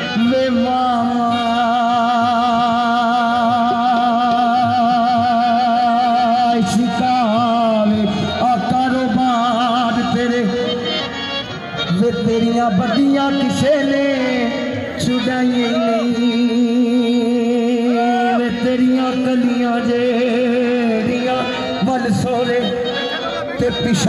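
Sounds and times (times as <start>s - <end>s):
man singing into a microphone: 0.0s - 24.0s.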